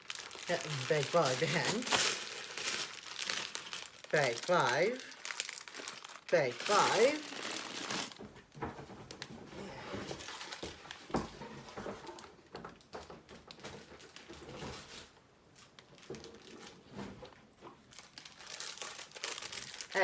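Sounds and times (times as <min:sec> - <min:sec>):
plastic bags crinkling: 0:00.0 - 0:08.3, 0:09.7 - 0:11.2, 0:13.5 - 0:20.0.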